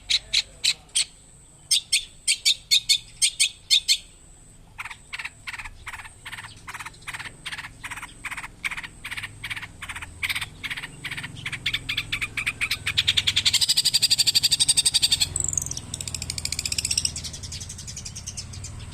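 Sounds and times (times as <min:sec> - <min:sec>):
harsh rasping bird call: 0:00.0 - 0:04.2, 0:04.8 - 0:18.9.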